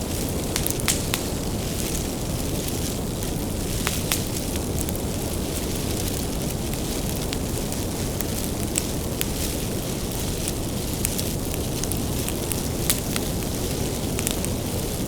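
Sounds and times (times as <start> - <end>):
fire crackles and pops: 0.0 - 15.0
fire flame rumble: 0.0 - 15.0.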